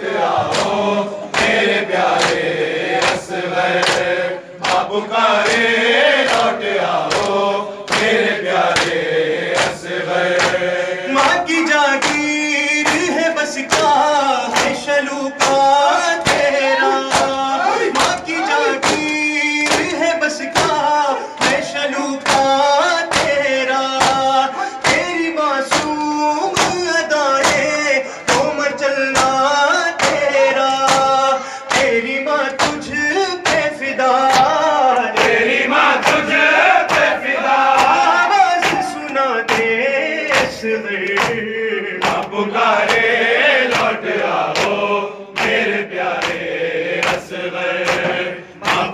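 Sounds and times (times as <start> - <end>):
men chanting a lament: 0.0 - 48.9.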